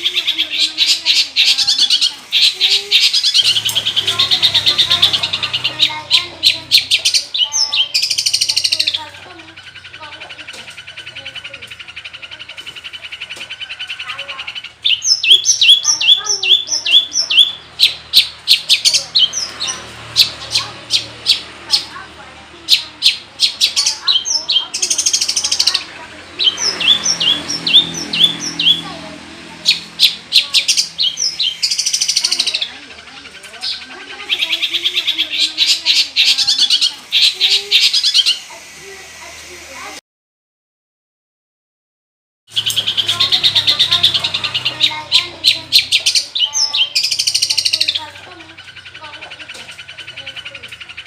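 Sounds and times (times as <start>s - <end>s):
harsh short bird notes: 0.0s - 38.6s, 42.5s - 51.0s
bird singing descending notes: 0.0s - 40.0s, 42.5s - 51.0s.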